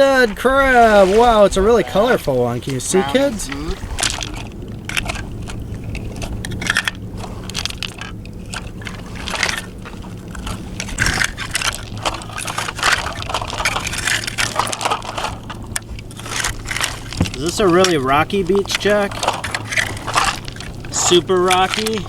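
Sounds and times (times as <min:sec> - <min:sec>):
beach stones clacking and crunching: 0:00.0 - 0:22.0
low hum: 0:00.0 - 0:22.0.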